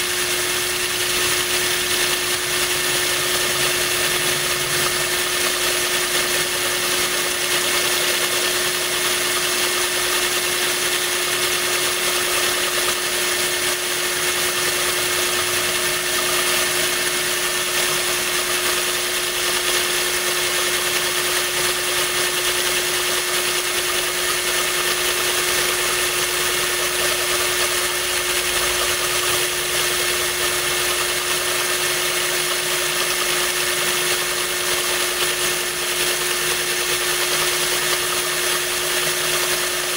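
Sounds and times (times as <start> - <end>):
drill bit grinding glass: 0.0 - 39.9
power drill humming: 0.0 - 39.9.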